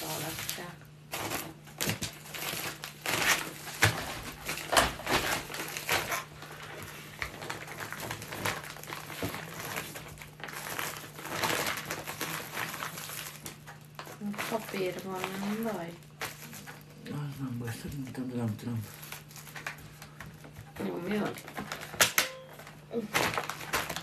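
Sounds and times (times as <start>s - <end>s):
bag crinkling and rustling: 0.0s - 24.0s.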